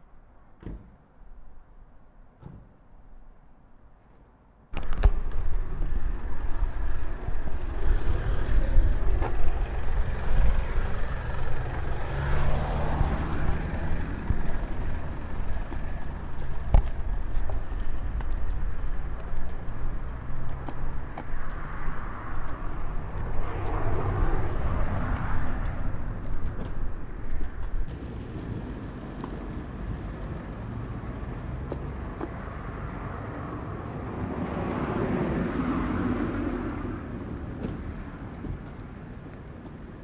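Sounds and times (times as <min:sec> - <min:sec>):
low traffic rumble: 0:00.1 - 0:40.0
car passing: 0:05.6 - 0:39.1.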